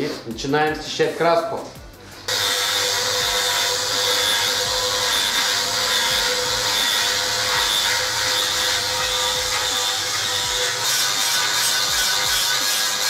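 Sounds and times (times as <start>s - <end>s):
angle grinder grinding steel: 2.2s - 13.0s.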